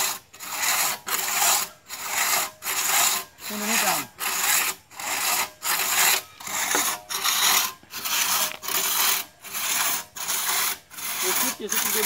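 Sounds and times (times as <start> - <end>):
crosscut saw rasping through log: 0.0 - 12.0.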